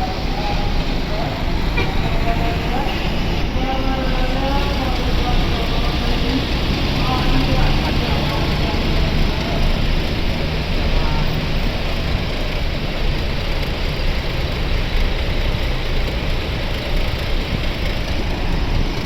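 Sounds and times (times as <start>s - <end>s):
large vehicle engine rumbling: 0.0s - 19.0s
road traffic noise: 0.0s - 19.0s.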